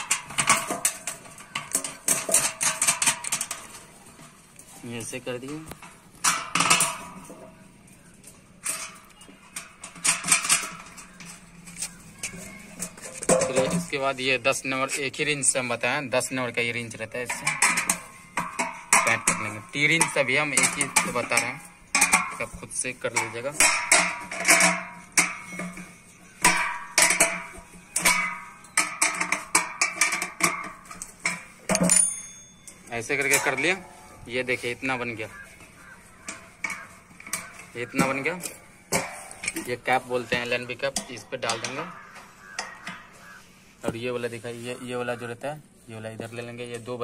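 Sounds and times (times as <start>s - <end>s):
metal bracket and nuts clinking: 0.0s - 43.4s.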